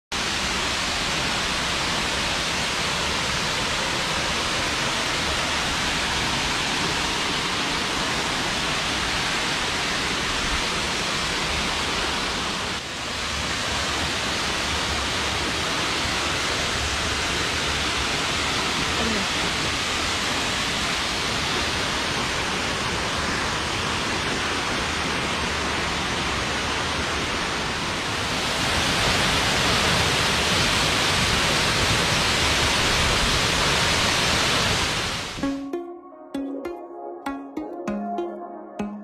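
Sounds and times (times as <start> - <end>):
waterfall rushing: 0.2 - 35.5.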